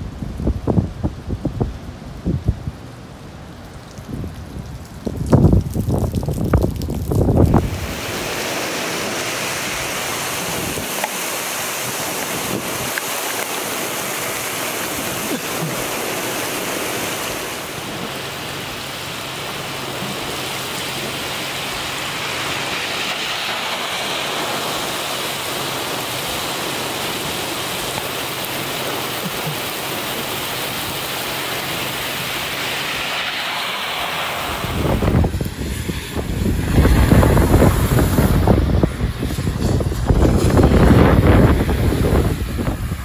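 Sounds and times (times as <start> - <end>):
gusty wind buffeting microphone: 0.0 - 2.9, 3.9 - 28.0, 28.7 - 43.0
rain pouring on a street: 0.0 - 43.0.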